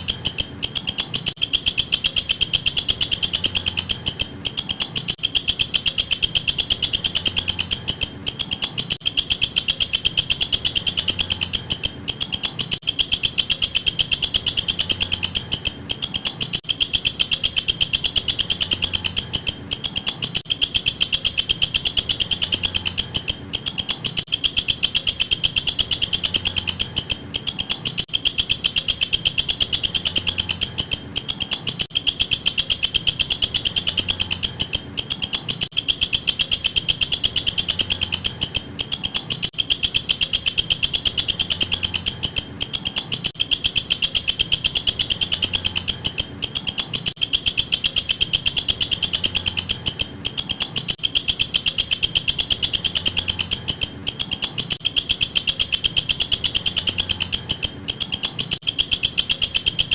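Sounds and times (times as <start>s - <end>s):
insect trilling: 0.0s - 59.9s.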